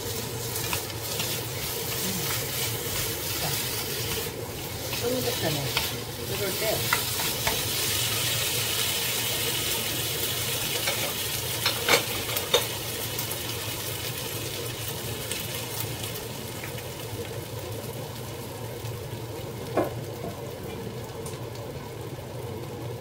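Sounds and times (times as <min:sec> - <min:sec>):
potatoes sizzling in oil: 0:00.0 - 0:23.0.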